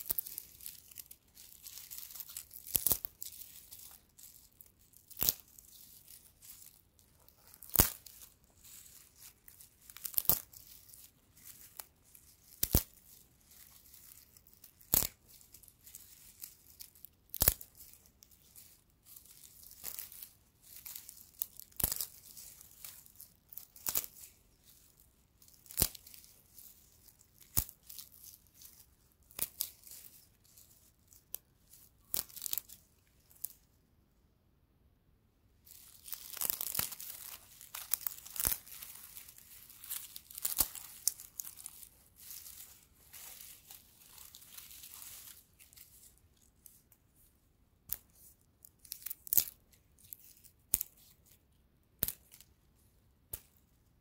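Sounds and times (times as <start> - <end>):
straw rustling: 0.0 - 33.6, 35.6 - 46.9
straw stalks snapping and crackling: 0.0 - 33.6, 35.7 - 46.8, 47.9 - 51.4, 52.0 - 52.5, 53.3 - 53.6.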